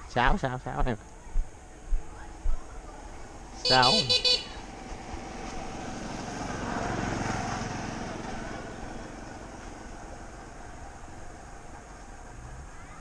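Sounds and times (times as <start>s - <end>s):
motorbike passing: 1.5s - 13.0s.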